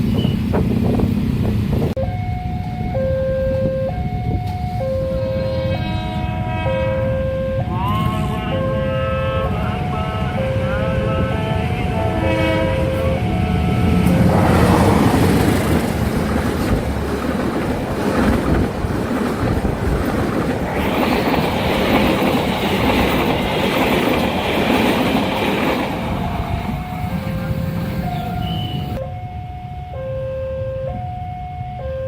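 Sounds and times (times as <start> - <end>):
train passing with clattering wheels: 0.0 - 29.8
level crossing warning signal: 2.0 - 18.8, 19.6 - 32.0.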